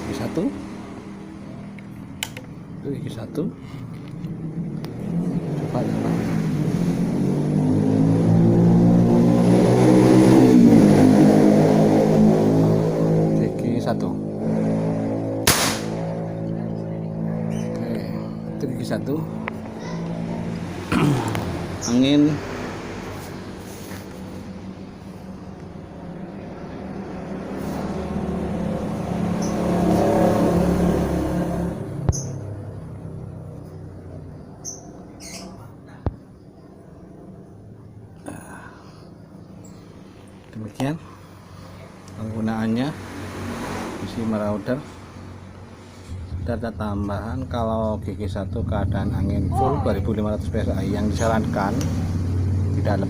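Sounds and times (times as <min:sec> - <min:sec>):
motor vehicle engine passing: 0:00.0 - 0:53.0.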